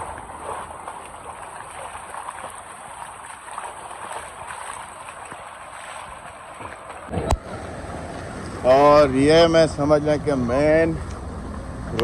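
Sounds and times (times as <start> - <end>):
rainwater flowing along a street: 0.0 - 9.8.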